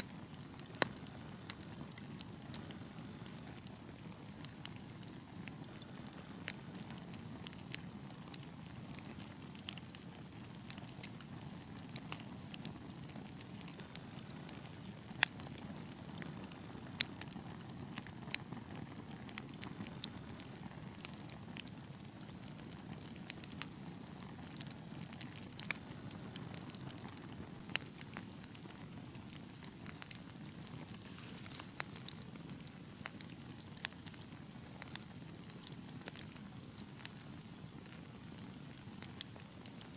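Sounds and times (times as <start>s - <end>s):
fire flames rumbling: 0.0s - 39.9s
wood fire crackling and popping: 0.0s - 39.9s.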